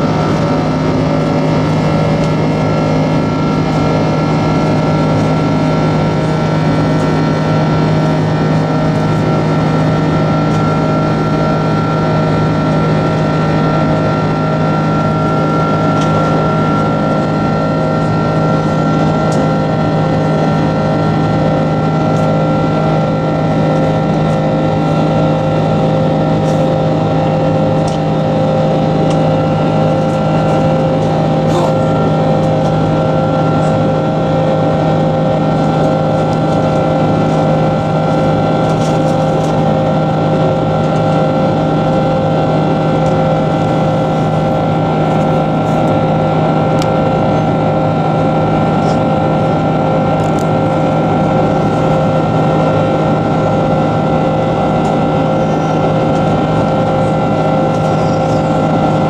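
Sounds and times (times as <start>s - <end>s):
jet engine roar in cabin: 0.0s - 59.0s
whining engine tones: 0.0s - 59.0s.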